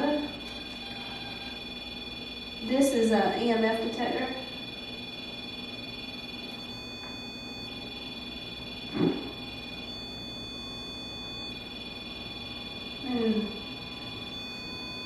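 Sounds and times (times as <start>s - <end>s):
electronic alarm high tones: 0.0s - 15.0s.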